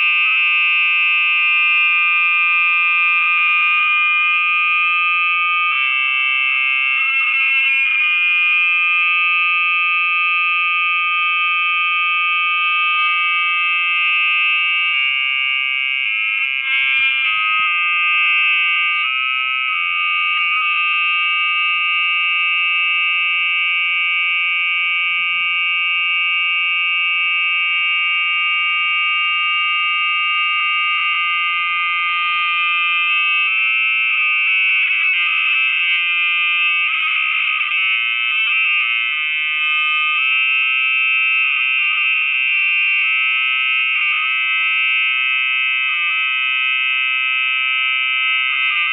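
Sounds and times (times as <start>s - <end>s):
shrill electronic feedback drone: 0.0s - 23.8s, 27.9s - 48.9s.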